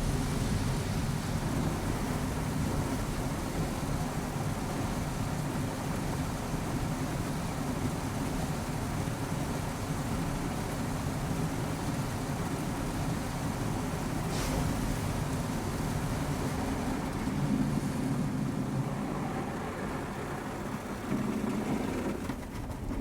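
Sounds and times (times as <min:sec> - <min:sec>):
car wash rumbling rush: 0:00.0 - 0:23.0.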